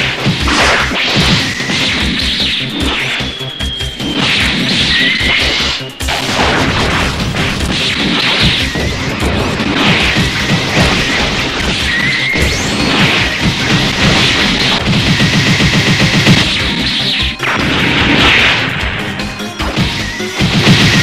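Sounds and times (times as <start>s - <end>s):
punch and impact effects: 0.0s - 3.2s, 4.1s - 16.8s, 19.7s - 21.0s
background music: 0.0s - 21.0s.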